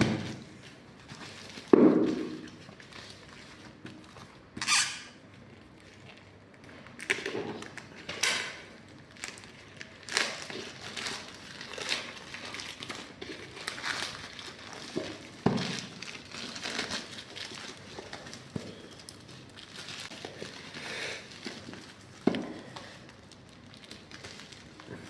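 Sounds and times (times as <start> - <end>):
wrap crinkling and rustling: 0.2 - 25.0.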